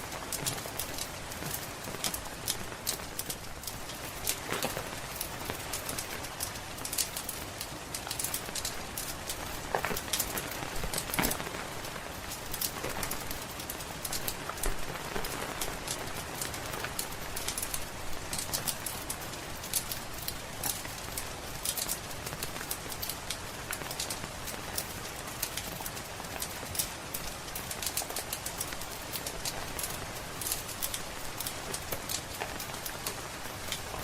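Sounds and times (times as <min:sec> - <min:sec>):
steady rain: 0:00.0 - 0:34.0
wood fire crackling: 0:00.0 - 0:34.0.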